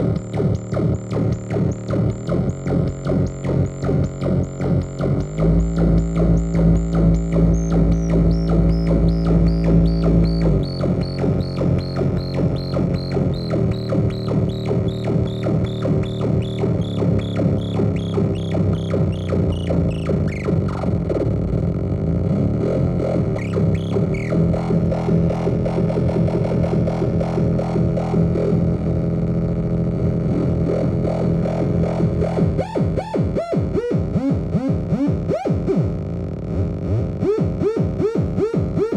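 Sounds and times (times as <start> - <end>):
high blips sliding downward: 0.0 - 35.8
buzzy pulsing synthesizer drone: 0.0 - 38.9.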